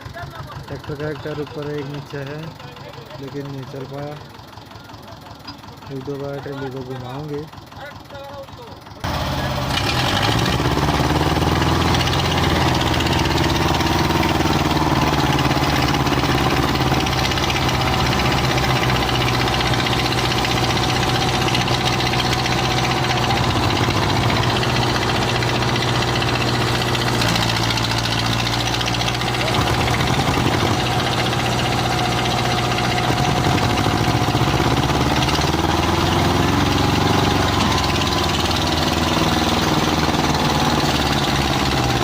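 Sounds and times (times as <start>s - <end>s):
diesel tractor engine running: 0.0s - 42.0s.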